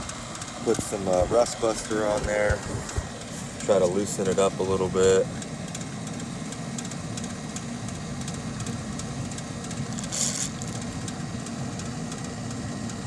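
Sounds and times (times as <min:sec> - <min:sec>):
mechanical hum of equipment: 0:00.0 - 0:13.0.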